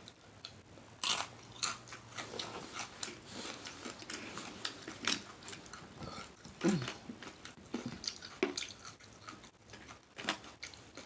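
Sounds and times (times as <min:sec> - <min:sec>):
chewing and lip-smacking: 0:00.0 - 0:11.0.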